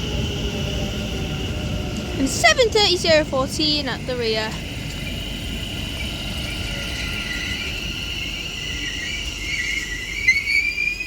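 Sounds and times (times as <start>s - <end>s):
high steady train whine: 0.0s - 11.0s
train wheels rumbling on track: 0.0s - 11.0s.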